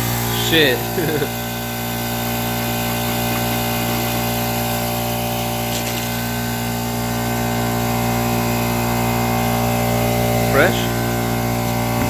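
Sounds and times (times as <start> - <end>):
machine motor humming: 0.0 - 12.0.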